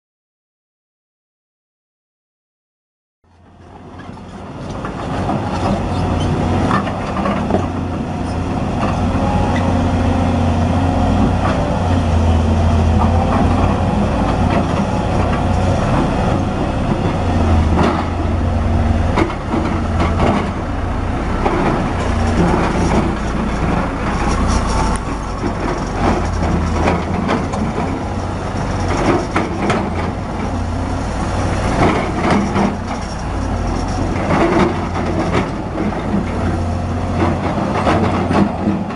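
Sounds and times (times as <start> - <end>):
excavator diesel engine under load: 3.3 - 38.9.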